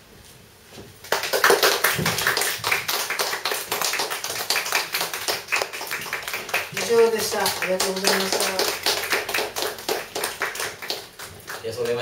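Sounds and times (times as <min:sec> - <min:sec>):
audience applauding: 0:01.0 - 0:12.0.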